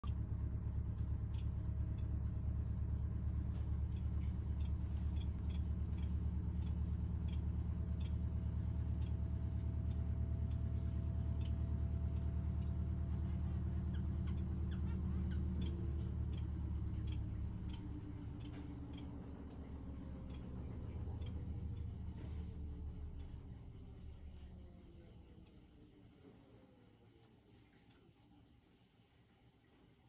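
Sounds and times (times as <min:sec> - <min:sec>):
finches ticking: 0:00.0 - 0:24.6
low hum: 0:00.0 - 0:26.8.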